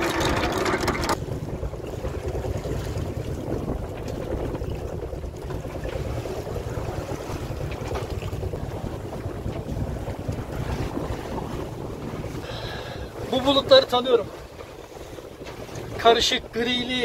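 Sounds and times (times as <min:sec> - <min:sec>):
boat engine rumble: 0:00.0 - 0:17.0
wind on microphone: 0:00.0 - 0:17.0.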